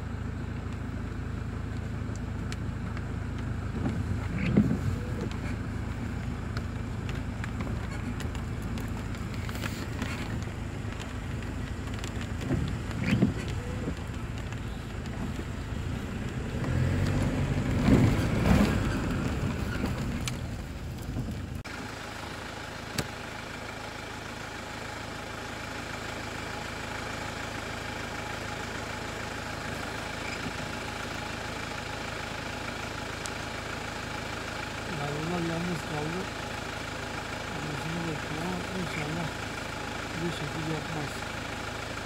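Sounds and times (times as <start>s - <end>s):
car engine idling: 0.0s - 42.0s
car engine rumbling: 0.0s - 42.0s.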